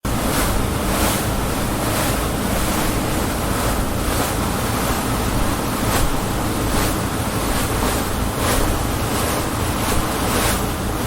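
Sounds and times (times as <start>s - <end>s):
motorboat engine hum: 0.0s - 11.0s
water rushing past: 0.0s - 11.0s.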